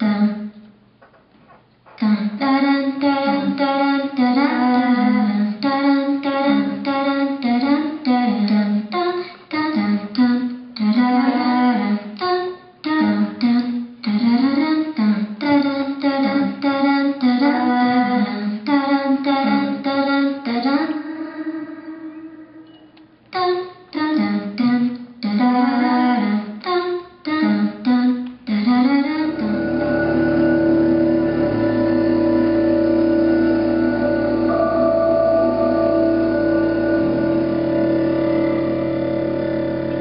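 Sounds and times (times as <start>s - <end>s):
wordless voice singing: 1.9s - 22.7s, 23.4s - 40.0s.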